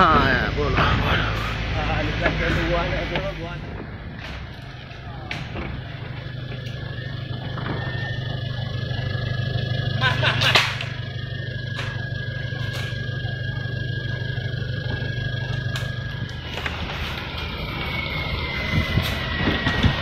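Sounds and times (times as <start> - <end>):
engine low drone: 0.0 - 20.0
thin steady high tone: 0.0 - 20.0.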